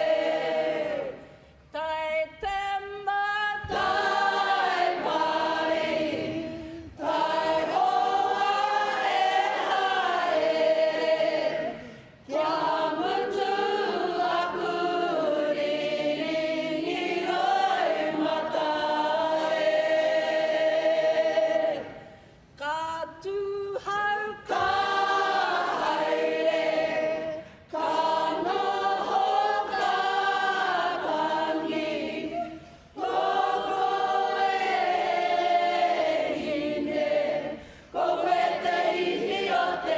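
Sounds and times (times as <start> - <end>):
group singing in unison: 0.0 - 2.6, 3.4 - 22.4, 23.2 - 39.9.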